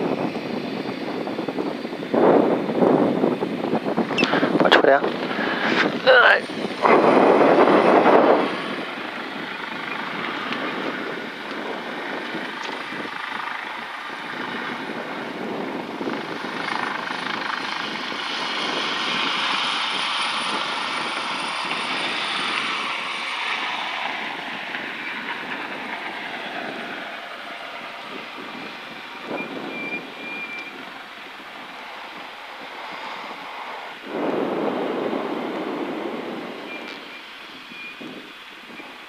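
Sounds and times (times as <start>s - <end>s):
helicopter in flight: 0.0s - 39.0s.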